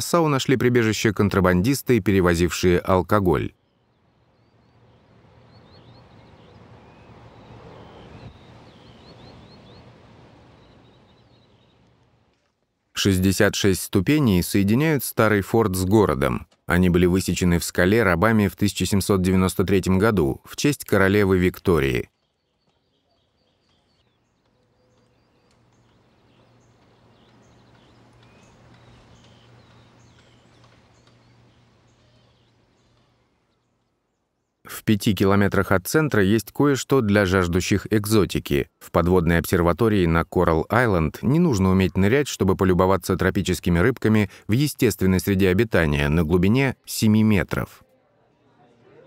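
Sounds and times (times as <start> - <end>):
small birds twittering: 1.0 - 12.6, 14.0 - 47.7.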